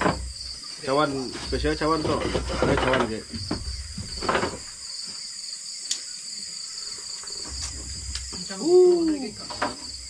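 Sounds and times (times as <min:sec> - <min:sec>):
night insects chirring: 0:00.0 - 0:10.0.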